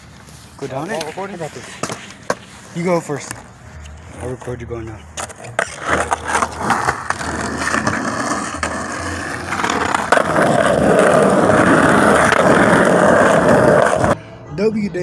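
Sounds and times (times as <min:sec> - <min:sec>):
skateboard wheels rolling on concrete: 0:00.0 - 0:14.2.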